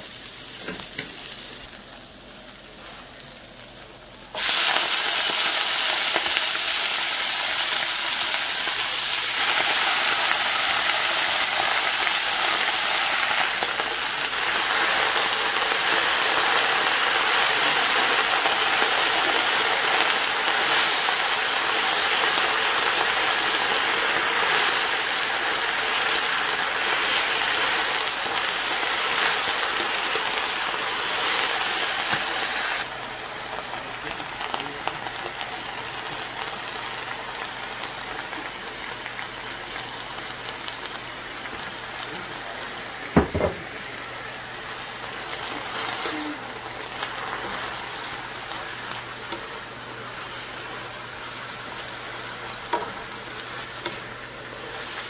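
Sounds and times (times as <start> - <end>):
garlic sizzling in oil: 0.0 - 55.0
vegetables frying loudly: 0.0 - 55.0.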